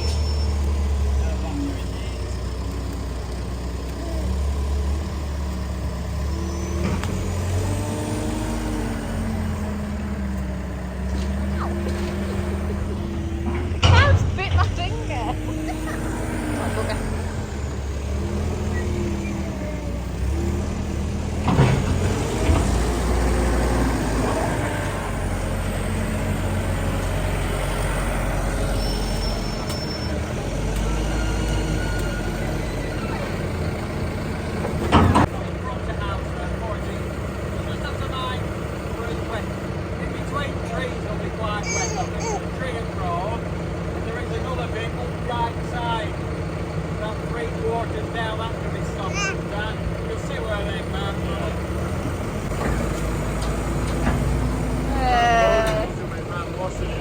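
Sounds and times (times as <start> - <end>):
vehicle engine low drone: 0.0 - 57.0.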